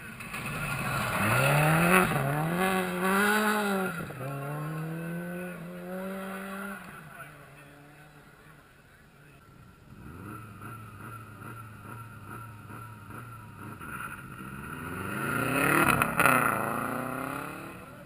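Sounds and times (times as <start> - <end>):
rally car engine revving: 0.0 - 8.6, 9.8 - 18.0.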